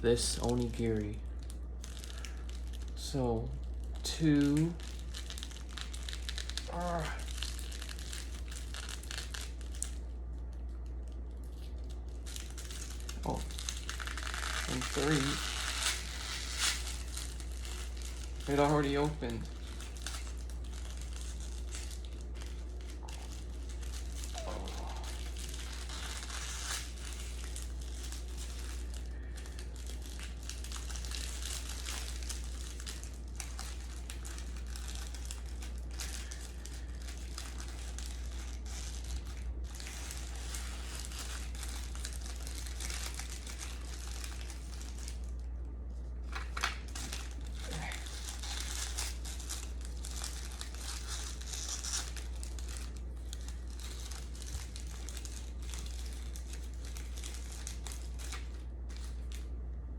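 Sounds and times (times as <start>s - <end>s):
plastic wrapper crinkling: 0.0s - 59.6s
steady low hum: 0.0s - 59.9s.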